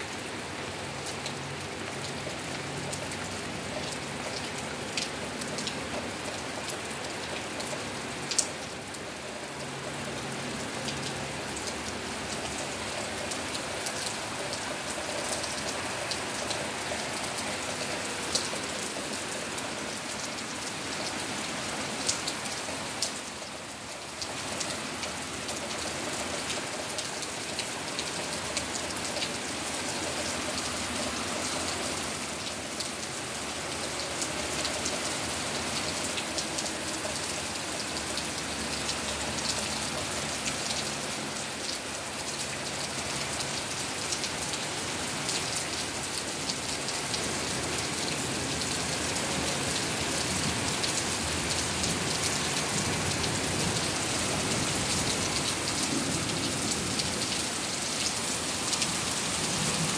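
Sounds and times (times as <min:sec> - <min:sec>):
steady rain falling: 0:00.0 - 0:59.9
raindrops ticking on surfaces: 0:00.1 - 0:59.9.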